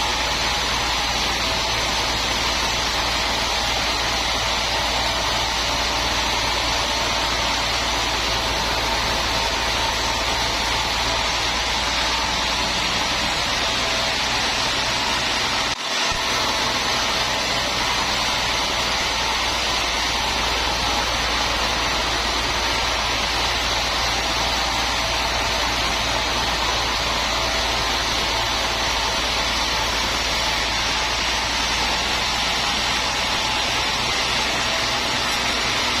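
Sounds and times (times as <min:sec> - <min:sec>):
sawmill machinery drone: 0:00.0 - 0:36.0.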